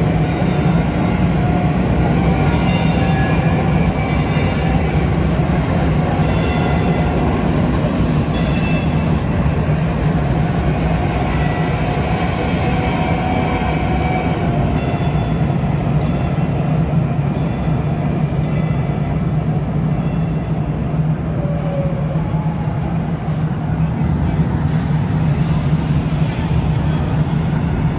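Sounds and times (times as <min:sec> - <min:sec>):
light rail train running hum: 0:00.0 - 0:27.9.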